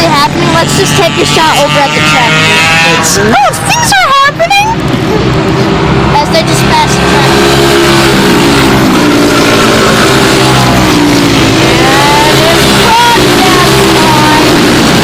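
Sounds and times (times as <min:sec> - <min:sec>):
racing kart engines: 0:00.0 - 0:15.0.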